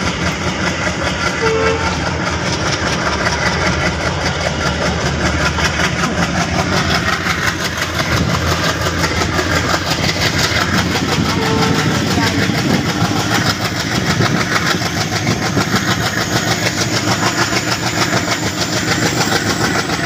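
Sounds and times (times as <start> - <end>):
diesel locomotive engine chugging: 0.0 - 20.0.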